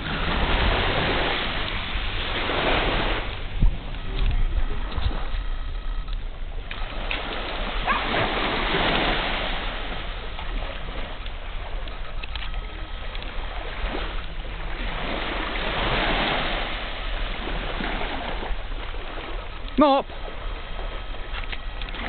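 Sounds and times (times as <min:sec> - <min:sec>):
waves washing onto shore: 0:00.0 - 0:22.0
wind rumbling on microphone: 0:00.0 - 0:22.0.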